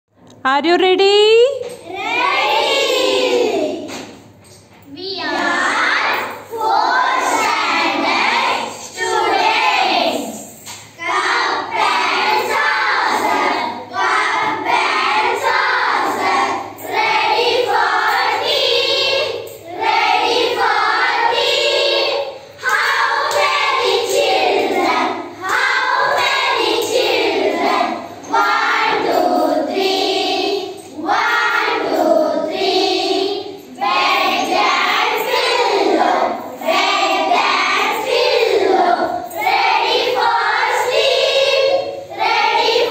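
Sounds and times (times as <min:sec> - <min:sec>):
children singing in unison: 0:02.0 - 0:04.0, 0:05.2 - 0:42.9.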